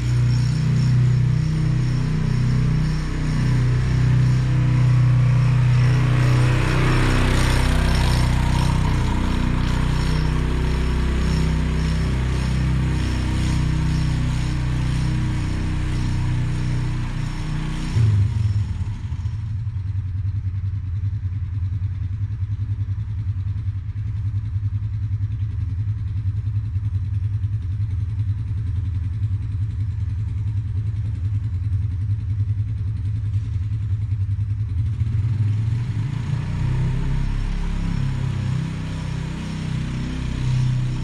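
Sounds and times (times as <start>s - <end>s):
quad bike engine running: 0.0s - 41.0s.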